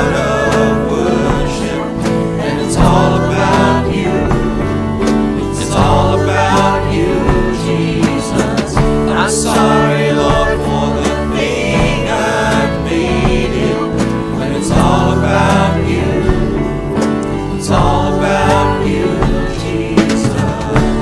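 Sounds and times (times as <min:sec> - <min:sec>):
person singing: 0:00.0 - 0:21.0
worship band with guitar: 0:00.0 - 0:21.0.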